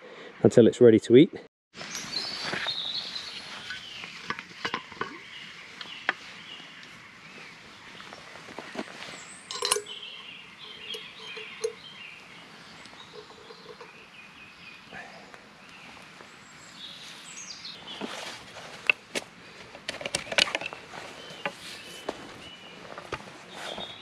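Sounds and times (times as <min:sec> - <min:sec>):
songbirds chirping: 0:01.8 - 0:24.0.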